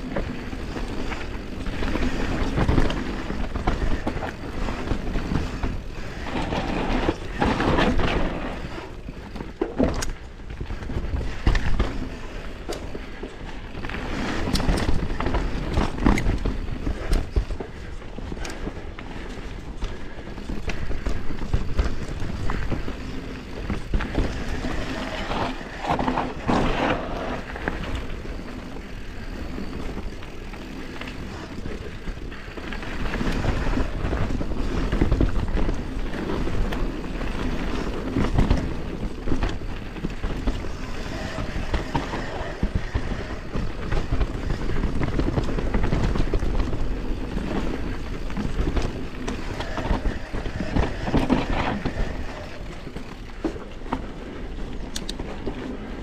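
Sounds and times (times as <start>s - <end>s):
tyres rolling over dirt and rocks: 0.0s - 56.0s.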